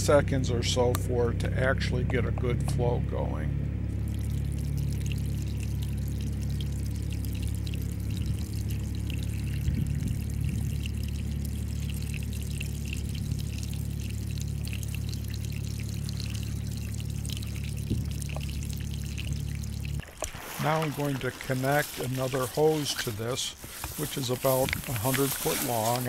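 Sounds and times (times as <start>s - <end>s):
water pouring from a pipe: 3.9s - 26.0s.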